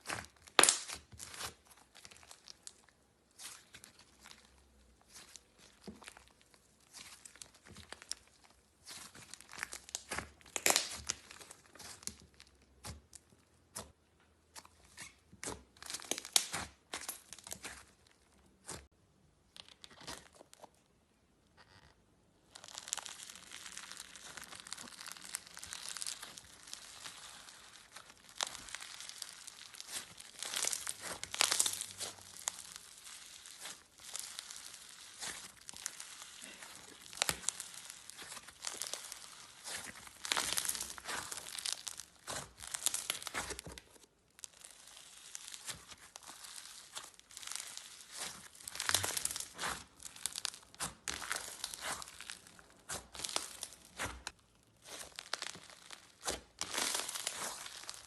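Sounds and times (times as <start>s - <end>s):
slime crackling and popping: 0.0s - 18.9s, 22.4s - 58.0s.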